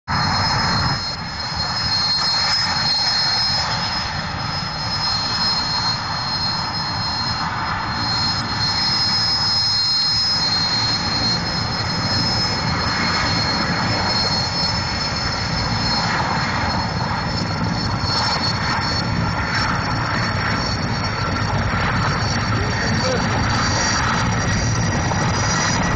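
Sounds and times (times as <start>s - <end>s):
helicopter rotor chopping: 0.1s - 25.9s
helicopter turbine whine: 0.1s - 25.9s.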